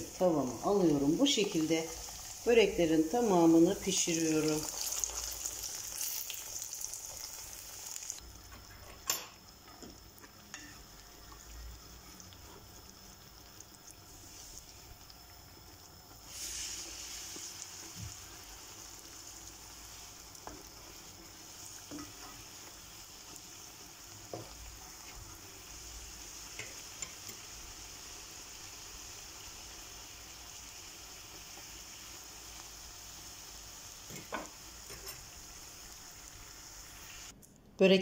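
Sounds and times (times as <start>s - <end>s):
pastries sizzling in oil: 0.0s - 37.4s.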